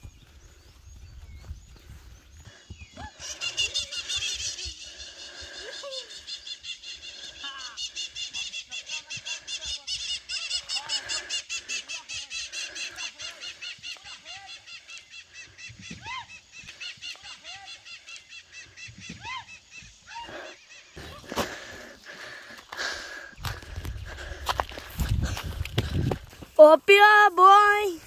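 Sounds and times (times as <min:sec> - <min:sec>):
birds chirping rapidly: 0:00.0 - 0:28.0.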